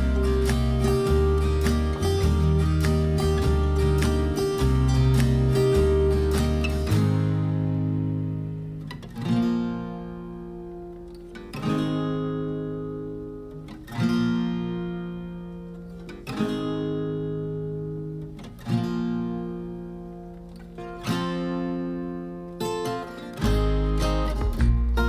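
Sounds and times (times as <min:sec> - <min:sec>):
acoustic guitar chords strummed: 0:00.0 - 0:25.0.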